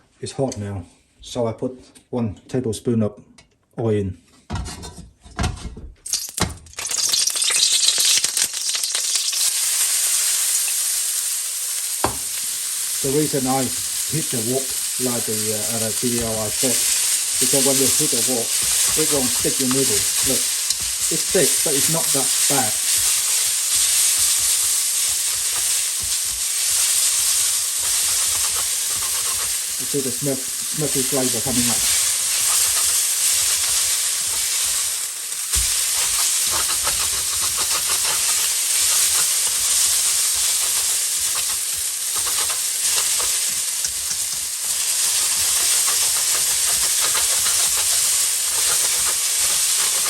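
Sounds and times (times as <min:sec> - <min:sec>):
noodles sizzling in hot oil: 0:06.1 - 0:50.0.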